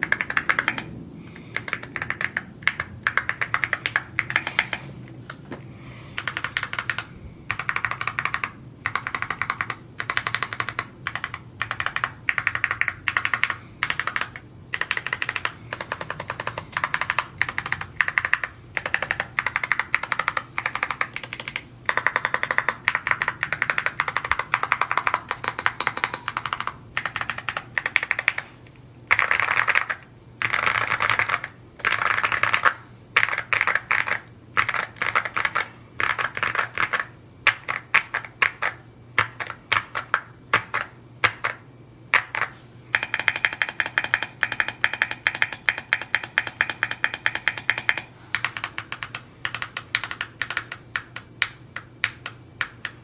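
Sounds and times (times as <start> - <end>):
mechanical keyboard typing: 0.0 - 4.9, 6.2 - 53.0.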